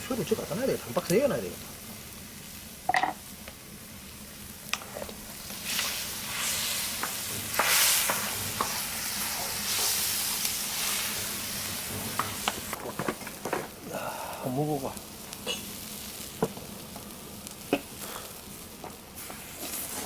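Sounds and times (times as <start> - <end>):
meat sizzling on a metal lid: 0.0 - 20.0.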